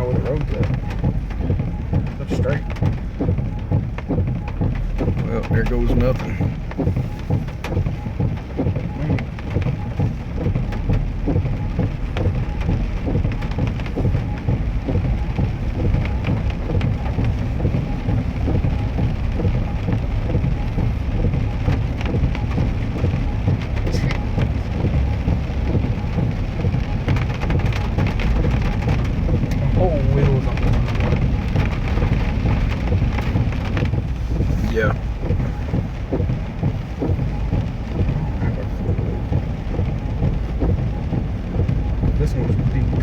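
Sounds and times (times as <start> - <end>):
low engine rumble: 0.0 - 43.0
water rushing and splashing: 0.0 - 43.0.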